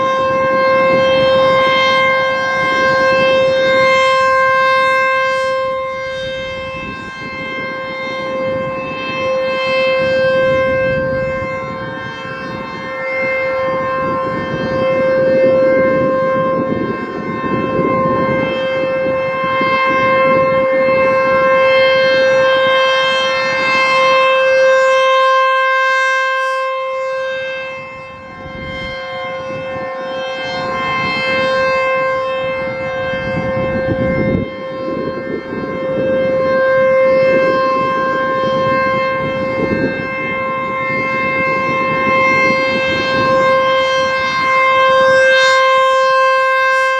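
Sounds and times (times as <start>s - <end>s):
rotating warning siren: 0.0s - 46.9s.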